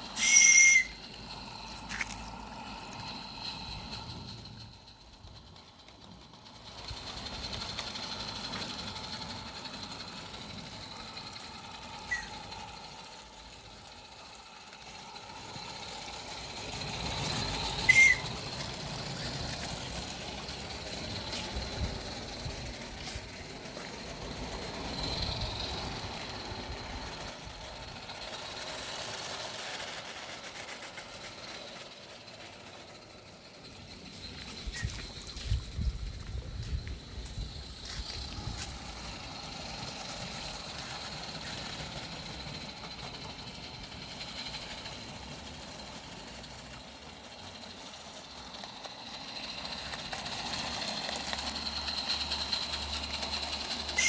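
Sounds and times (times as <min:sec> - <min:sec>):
steam locomotive exhaust and hiss: 0:00.0 - 0:54.0
wheel noise: 0:00.0 - 0:54.0.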